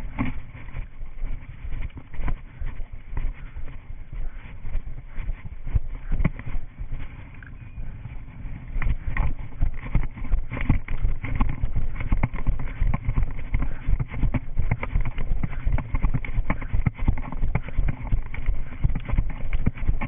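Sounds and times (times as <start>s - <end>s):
running footsteps on grass: 0.0s - 20.0s.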